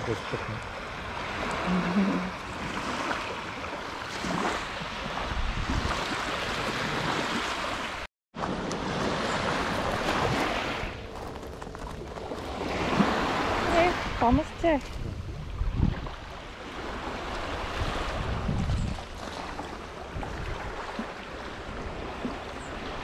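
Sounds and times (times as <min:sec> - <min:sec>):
sea waves washing onto beach: 0:00.0 - 0:11.5, 0:12.1 - 0:23.0.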